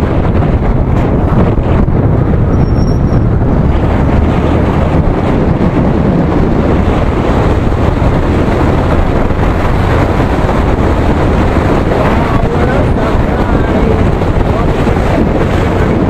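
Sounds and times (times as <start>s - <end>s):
motorcycle hum: 0.0s - 16.0s
wind buffeting microphone: 0.0s - 16.0s.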